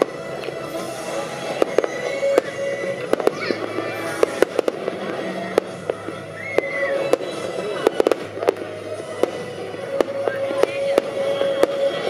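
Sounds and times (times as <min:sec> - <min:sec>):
fireworks bangs and cracks: 0:00.0 - 0:12.0
music: 0:00.0 - 0:12.0
voices: 0:00.0 - 0:12.0.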